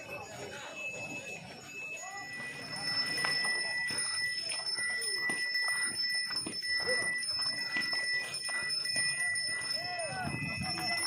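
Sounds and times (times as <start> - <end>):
crowd chatter: 0.0 - 11.0
small metal bell ringing: 0.0 - 11.0.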